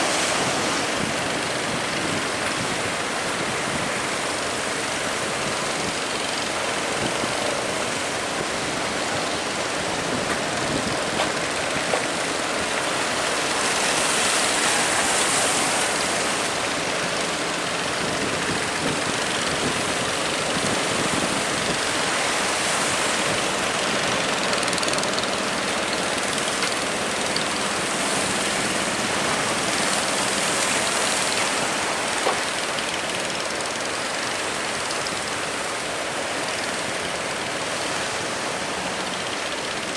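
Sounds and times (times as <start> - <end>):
rough sea rushing: 0.0 - 39.9
waves breaking: 0.0 - 39.9
wind around ship: 0.0 - 39.9.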